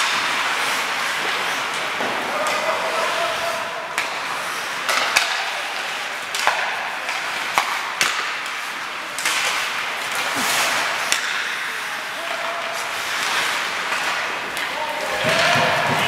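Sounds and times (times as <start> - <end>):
hockey sticks clacking: 0.0 - 16.0
skate blades scraping ice: 0.0 - 16.0.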